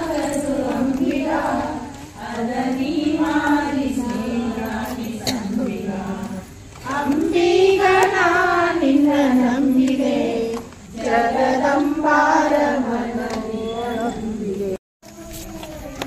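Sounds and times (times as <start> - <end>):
group singing devotional song: 0.0 - 14.8.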